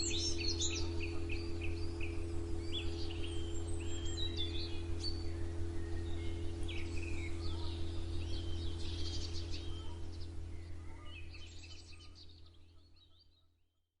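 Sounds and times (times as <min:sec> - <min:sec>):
low background rumble: 0:00.0 - 0:13.1
songbirds chirping and trilling: 0:00.0 - 0:13.5.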